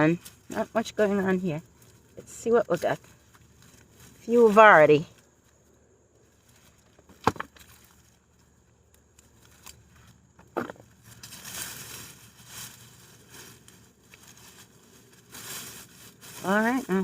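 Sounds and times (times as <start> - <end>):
rustling of vines and leaves: 0.0 - 17.0.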